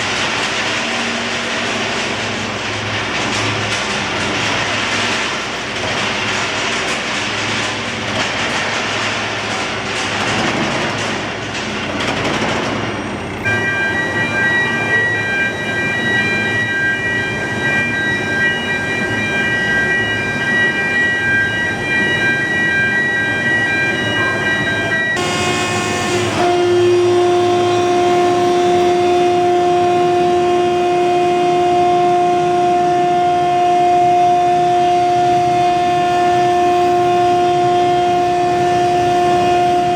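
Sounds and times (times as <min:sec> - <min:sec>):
furnace machinery roar: 0:00.0 - 0:22.1, 0:22.8 - 0:39.9.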